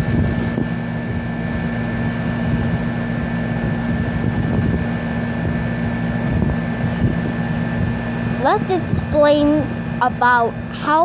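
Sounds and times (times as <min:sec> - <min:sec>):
air conditioner unit humming: 0:00.0 - 0:11.0
fan rushing: 0:00.0 - 0:11.0
high whine: 0:00.0 - 0:11.0.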